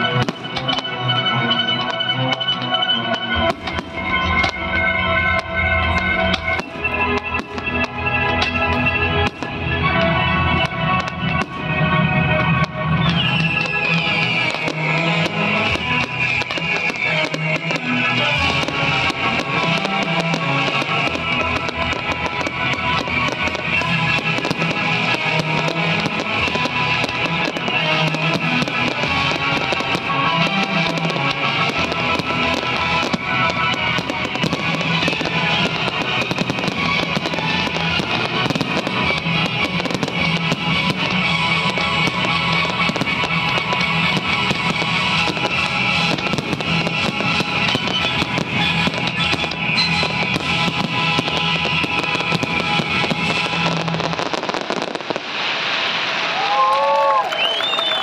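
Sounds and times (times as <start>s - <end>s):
loud music: 0.0s - 56.1s
fireworks crackling and popping: 0.0s - 58.0s.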